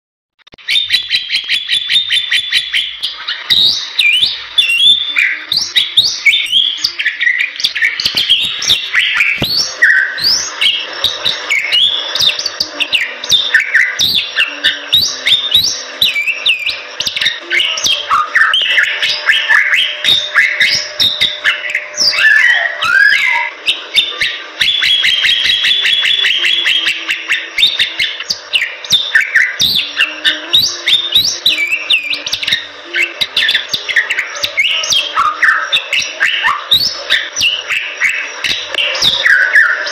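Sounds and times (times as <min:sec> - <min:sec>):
bird singing trills and chirps: 0:00.6 - 0:39.9.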